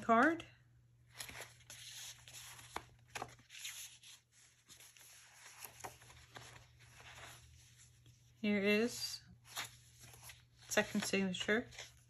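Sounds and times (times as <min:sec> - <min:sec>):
paper pages rustling: 0:01.1 - 0:08.4, 0:09.4 - 0:12.0.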